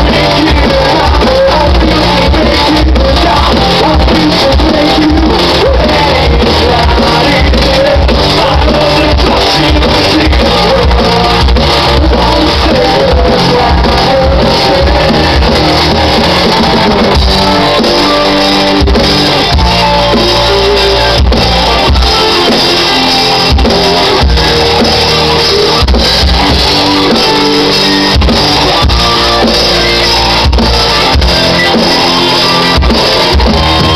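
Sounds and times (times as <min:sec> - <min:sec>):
live rock band playing: 0:00.0 - 0:33.9.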